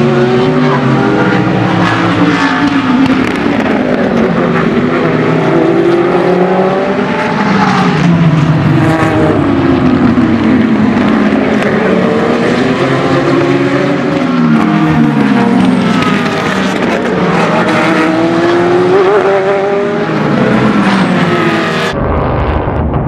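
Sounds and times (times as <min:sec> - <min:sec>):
race cars passing at speed: 0:00.0 - 0:22.0.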